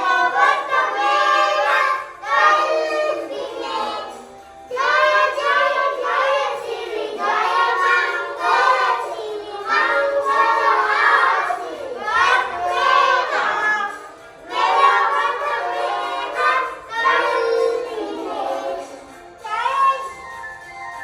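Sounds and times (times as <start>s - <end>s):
young children singing: 0.0s - 20.4s.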